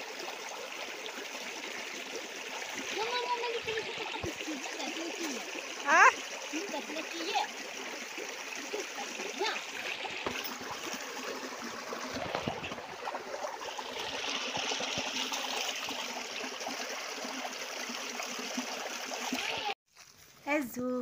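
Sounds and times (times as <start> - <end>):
stream trickling over rocks: 0.0 - 20.8.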